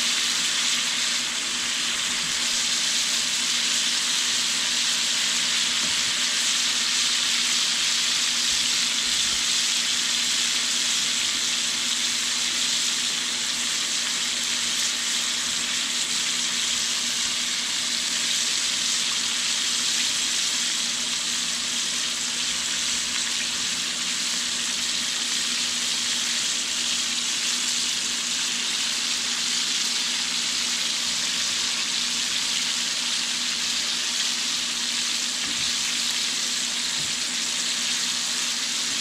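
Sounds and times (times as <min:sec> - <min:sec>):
fish deep-frying in sizzling oil: 0:00.0 - 0:39.0.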